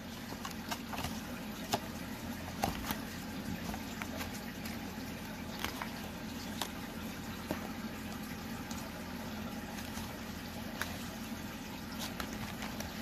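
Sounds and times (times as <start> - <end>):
low background hum: 0.0 - 13.0
paper pages flipping: 0.1 - 8.9, 9.6 - 13.0.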